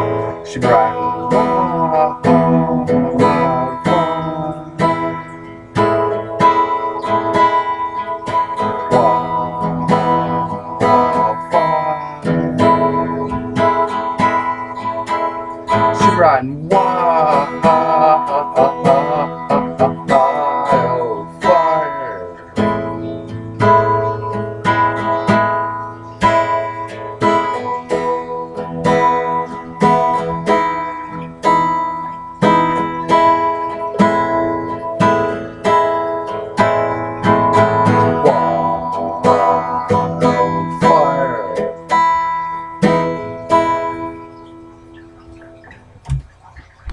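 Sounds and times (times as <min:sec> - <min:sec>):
strummed guitar chords: 0:00.0 - 0:46.9.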